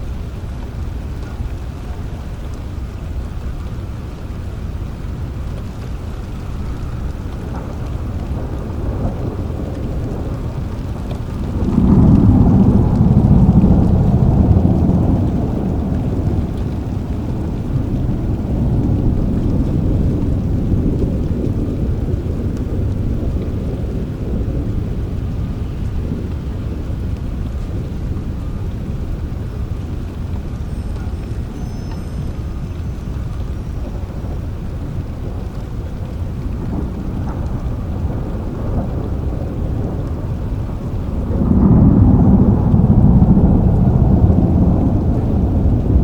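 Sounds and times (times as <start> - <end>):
low roll of thunder: 0.0 - 46.0
steady rain: 0.0 - 46.0.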